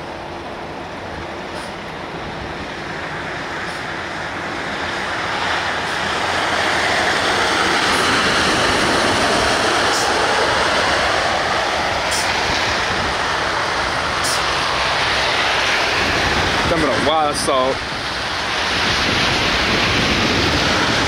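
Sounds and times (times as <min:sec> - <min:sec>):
plow blade scraping road: 0:00.0 - 0:21.0
tires running through slush: 0:01.0 - 0:21.0.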